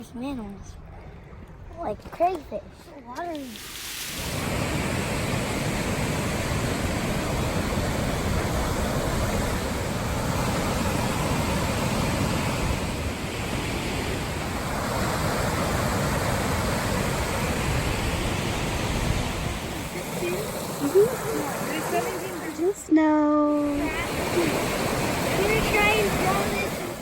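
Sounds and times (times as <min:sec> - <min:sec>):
creek water rushing: 0:03.2 - 0:27.0.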